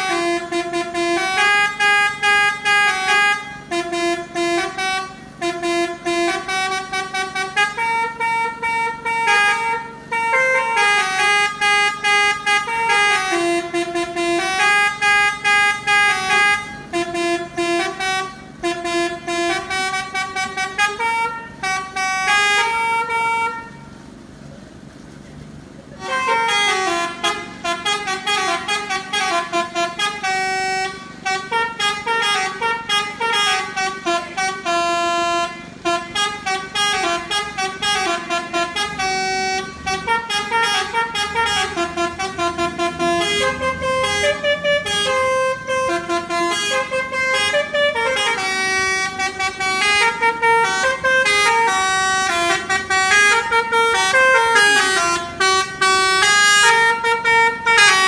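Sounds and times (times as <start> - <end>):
bus horn playing fast melody: 0.0 - 24.2, 26.0 - 58.0.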